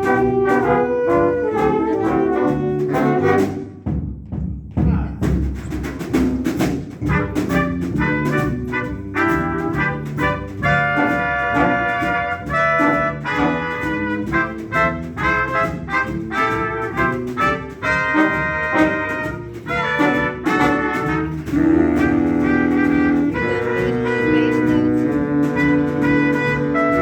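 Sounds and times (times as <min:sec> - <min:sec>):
swing band horn section: 0:00.0 - 0:04.1, 0:05.8 - 0:27.0.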